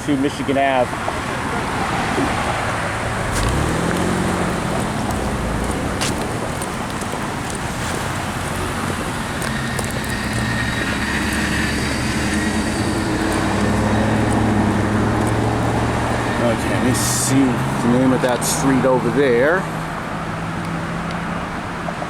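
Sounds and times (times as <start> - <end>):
car engines humming: 0.0 - 22.0
traffic noise: 0.0 - 22.0.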